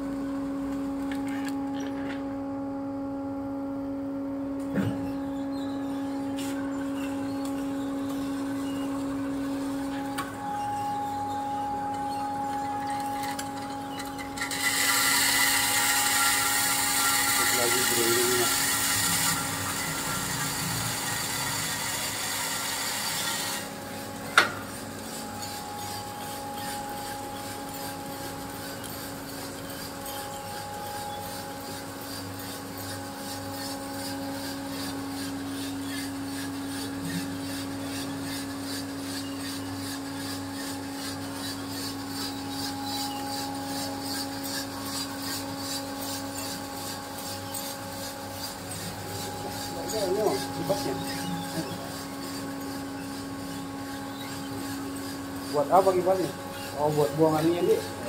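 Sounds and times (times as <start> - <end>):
motor hum: 0.0 - 58.0.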